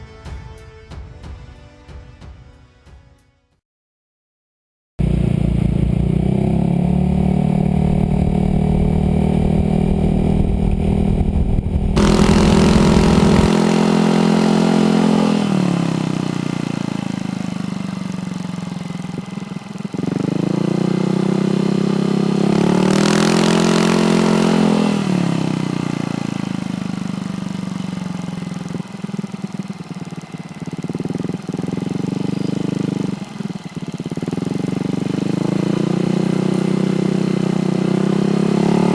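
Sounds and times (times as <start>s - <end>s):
scooter engine revving: 5.0s - 38.9s.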